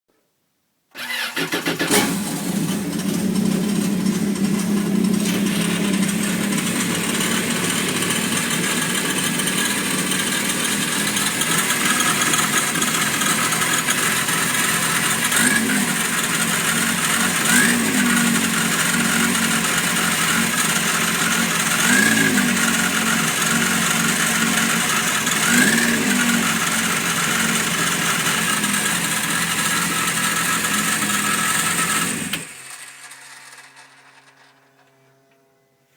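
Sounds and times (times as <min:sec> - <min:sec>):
engine revving: 0:01.0 - 0:33.9
motorcycle engine idling: 0:02.1 - 0:34.9.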